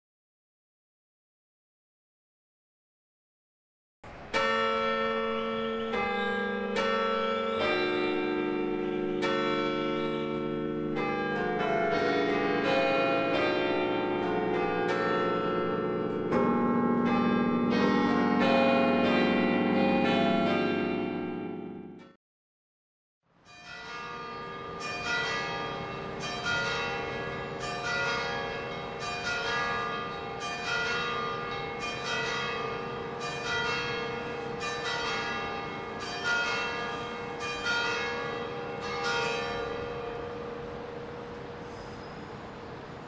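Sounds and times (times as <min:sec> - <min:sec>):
swinging church bell ringing: 0:04.2 - 0:22.2, 0:23.4 - 0:43.0.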